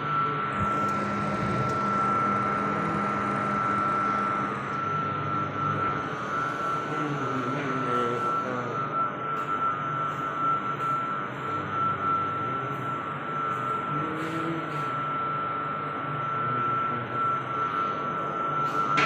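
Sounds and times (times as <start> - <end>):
high-pitched machinery whine: 0.0 - 19.0
machinery hum: 0.0 - 19.0.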